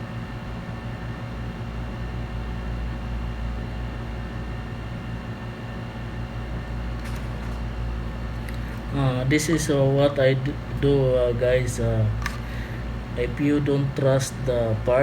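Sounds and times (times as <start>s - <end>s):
electric fan drone: 0.0s - 15.0s.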